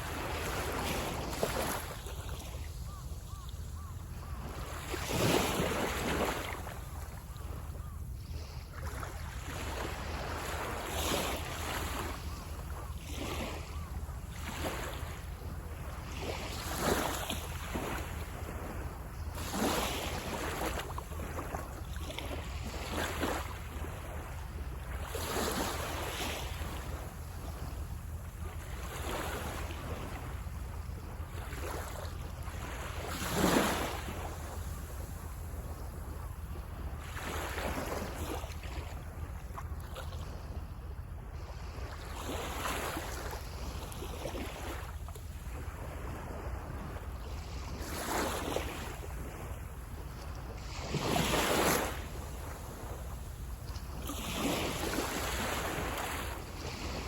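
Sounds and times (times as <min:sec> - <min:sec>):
low wind rumble on microphone: 0:00.0 - 0:57.0
small waves breaking on shore: 0:00.0 - 0:57.0.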